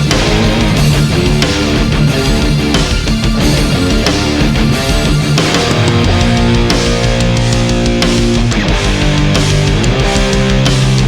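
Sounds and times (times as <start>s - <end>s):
distorted electric guitar: 0.0s - 11.0s
rock drums: 0.0s - 11.0s.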